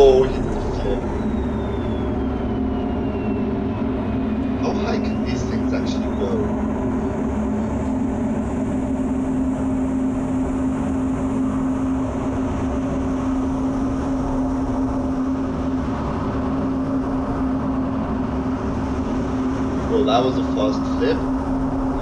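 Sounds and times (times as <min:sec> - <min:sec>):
constant low humming tone: 0:00.0 - 0:22.0
jet engine and airflow noise: 0:00.0 - 0:22.0.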